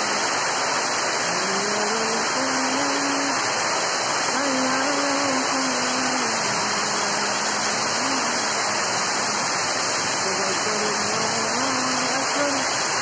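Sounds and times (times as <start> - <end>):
rushing storm noise: 0.0 - 13.0.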